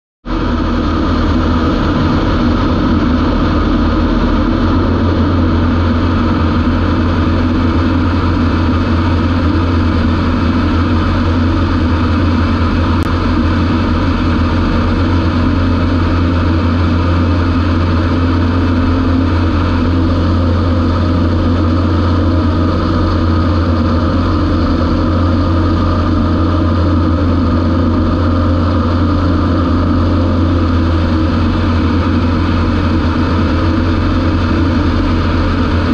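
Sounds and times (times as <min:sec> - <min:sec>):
light aircraft engine droning: 0:00.3 - 0:35.9.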